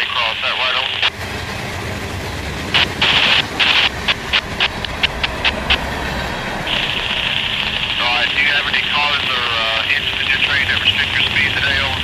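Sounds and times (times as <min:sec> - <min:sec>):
freight train wheels rumbling on rail: 0:00.1 - 0:12.0.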